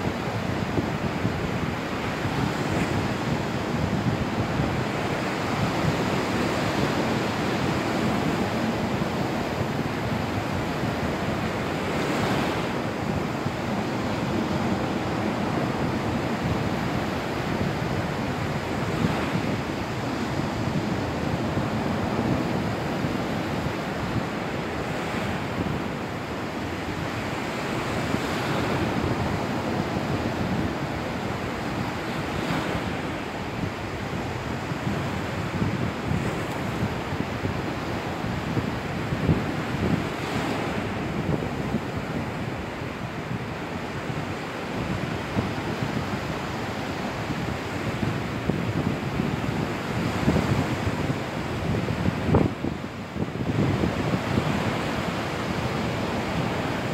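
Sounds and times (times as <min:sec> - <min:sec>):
wind on microphone: 0:00.0 - 0:56.9.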